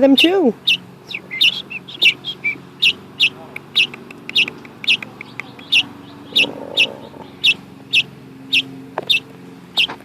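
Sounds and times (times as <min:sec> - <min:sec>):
fledgling bird chirping: 0:00.0 - 0:10.0.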